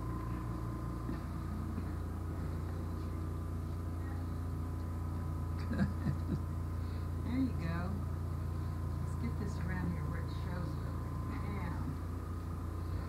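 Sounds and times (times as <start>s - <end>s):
low electrical hum: 0.0s - 13.0s
thin high whine: 0.0s - 13.0s.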